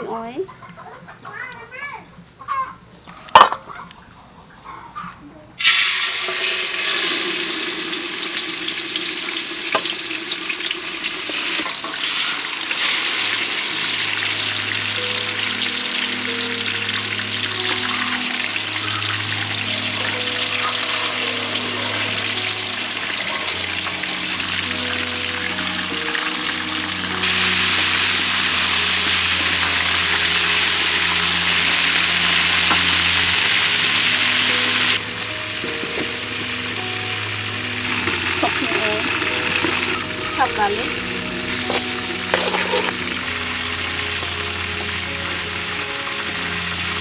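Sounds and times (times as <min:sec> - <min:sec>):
soft background music: 0:00.0 - 0:01.3, 0:04.6 - 0:47.0
chicken sizzling in hot oil: 0:05.6 - 0:47.0.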